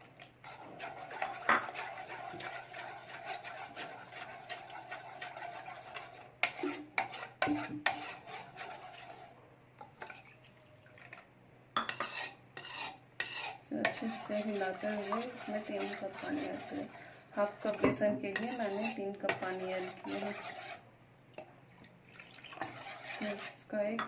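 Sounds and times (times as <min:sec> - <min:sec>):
spoon stirring batter: 0:00.0 - 0:24.0.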